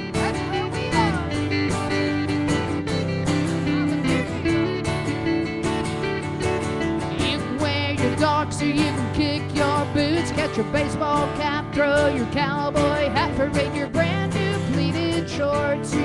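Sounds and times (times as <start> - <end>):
person singing: 0.0 - 5.8, 6.9 - 16.0
electric bass: 0.0 - 16.0
strummed acoustic guitar: 0.0 - 16.0.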